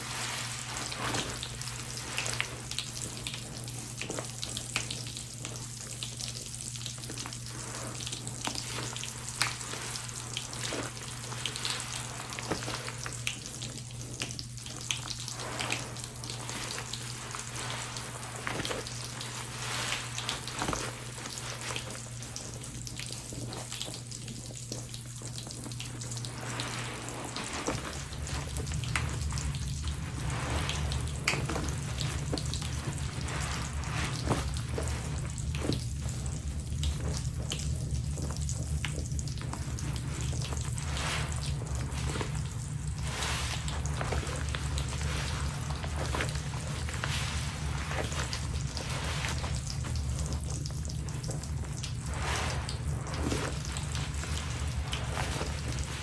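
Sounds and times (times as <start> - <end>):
crackling fizz of suds: 0.0 - 56.0
soapy sponges squeezed: 0.0 - 56.0.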